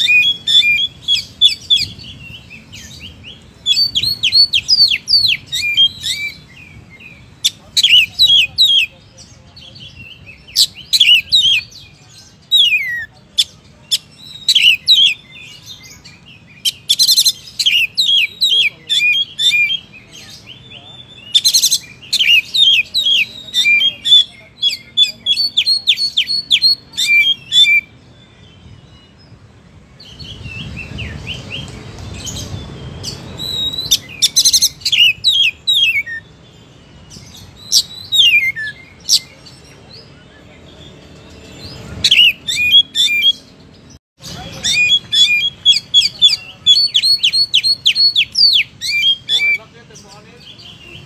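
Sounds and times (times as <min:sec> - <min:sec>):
bird singing whistled notes: 0:00.0 - 0:29.4, 0:30.0 - 0:51.0.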